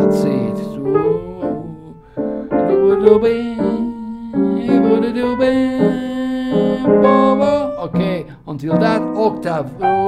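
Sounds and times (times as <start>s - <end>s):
slow jazz piano: 0.0s - 10.0s.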